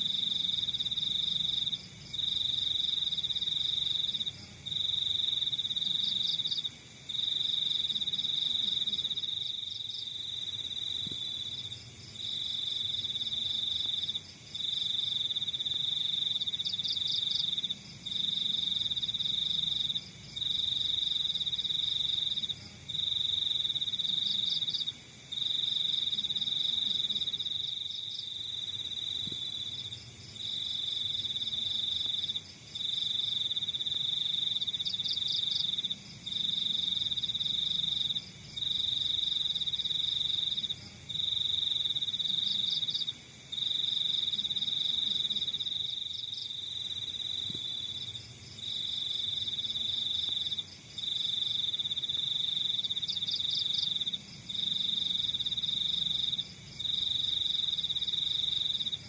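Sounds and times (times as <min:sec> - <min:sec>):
crickets trilling: 0:00.0 - 0:59.0
faint pulsing insect chirp: 0:00.0 - 0:59.0.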